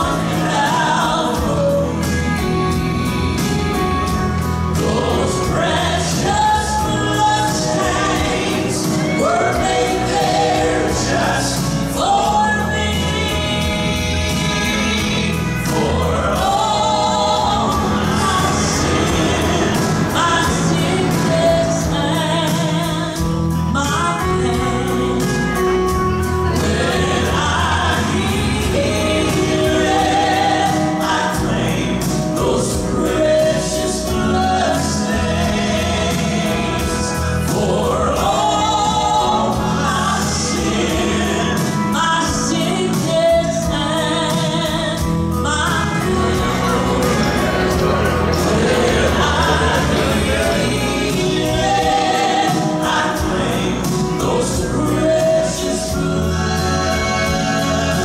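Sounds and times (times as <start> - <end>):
instrumental backing: 0.0 - 58.0
vocal group singing gospel: 0.0 - 58.0.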